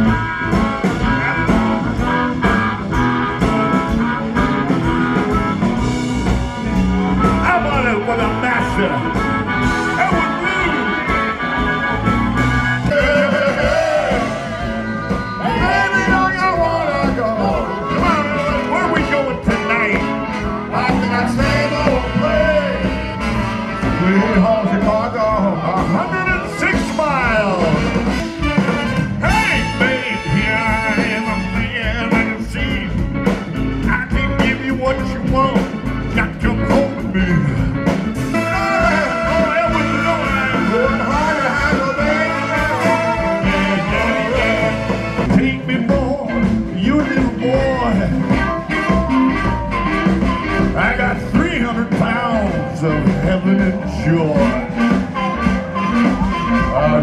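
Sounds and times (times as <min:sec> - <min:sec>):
gliding lead melody: 0:00.0 - 0:34.2, 0:35.1 - 0:57.0
blues-rock band music: 0:00.0 - 0:57.0
guitar: 0:00.0 - 0:57.0
steady drum beat: 0:00.0 - 0:57.0.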